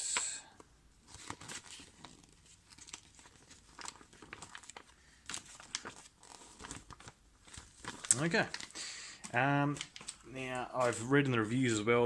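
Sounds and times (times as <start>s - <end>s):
paper rustling and crinkling: 1.0s - 11.7s.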